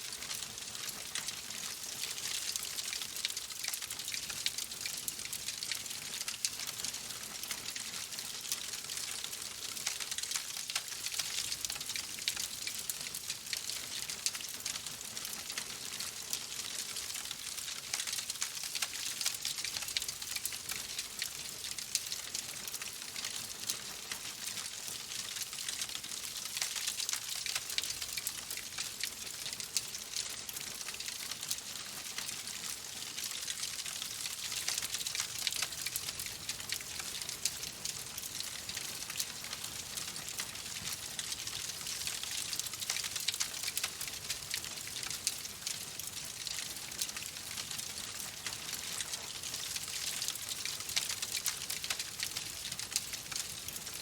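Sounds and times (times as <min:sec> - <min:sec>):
wood fire crackling: 0:00.1 - 0:54.0.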